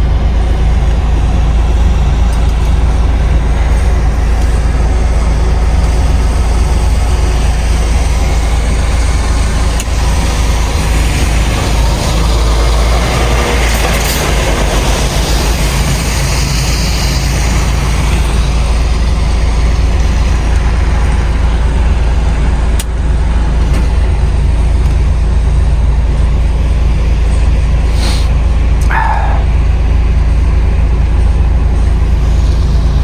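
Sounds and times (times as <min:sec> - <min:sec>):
diesel truck engine droning: 0:00.0 - 0:33.0.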